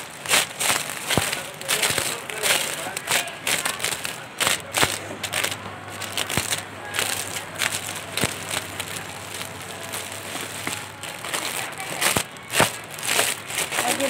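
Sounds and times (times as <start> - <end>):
cellophane crinkling: 0.0 - 14.0.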